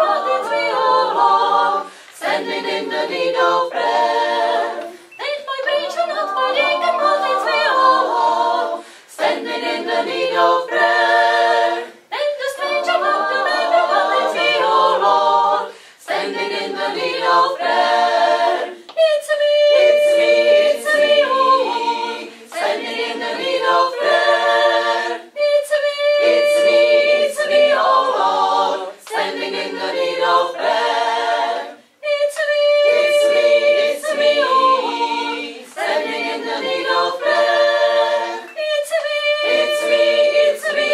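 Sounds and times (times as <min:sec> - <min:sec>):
choir singing a cappella: 0:00.0 - 0:40.9.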